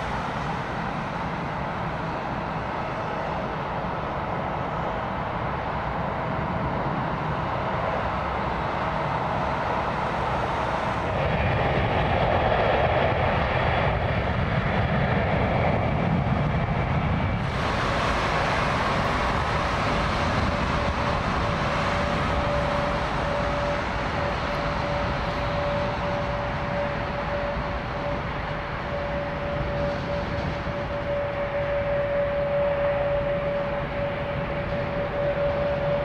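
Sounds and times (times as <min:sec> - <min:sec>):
jet engines taxiing rumble: 0:00.0 - 0:36.0.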